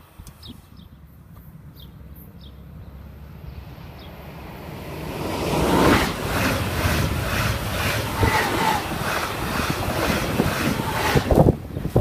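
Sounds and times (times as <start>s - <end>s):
electric train approaching: 1.0s - 11.9s.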